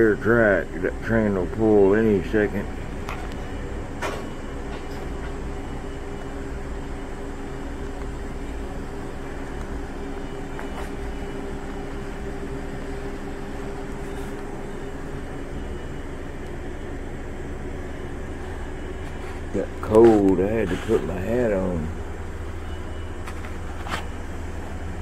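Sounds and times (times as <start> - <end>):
diesel locomotive idling: 0.0 - 25.0.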